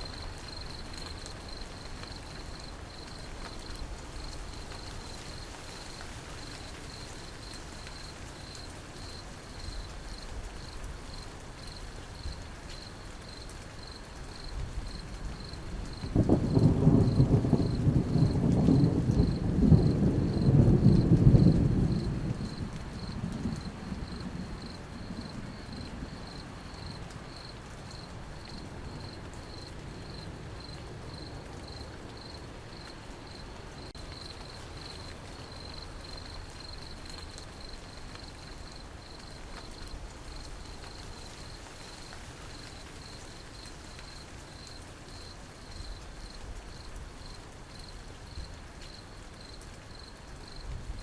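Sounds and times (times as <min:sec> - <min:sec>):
cricket chirping: 0:00.0 - 0:50.7
steady rain: 0:00.0 - 0:51.0.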